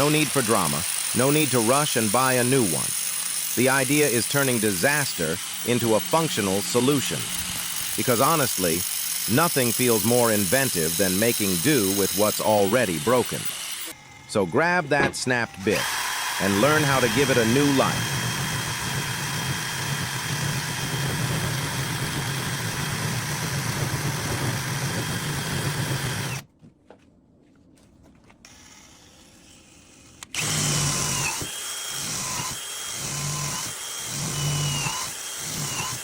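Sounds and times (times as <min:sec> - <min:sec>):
power tool motor whine: 0:00.0 - 0:26.4, 0:28.5 - 0:36.0.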